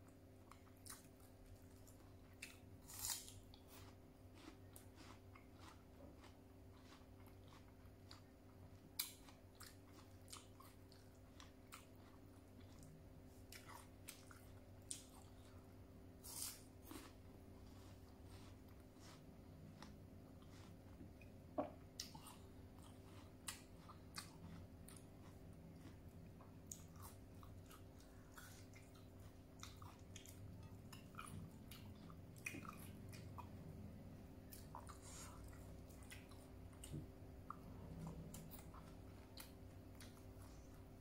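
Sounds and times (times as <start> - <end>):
person chewing with mouth clicks: 0.0 - 15.6, 16.2 - 40.9.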